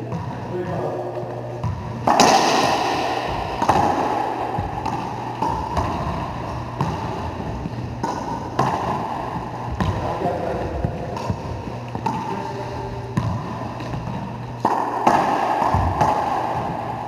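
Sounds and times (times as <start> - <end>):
racquetball hits echoing: 0.0 - 17.0.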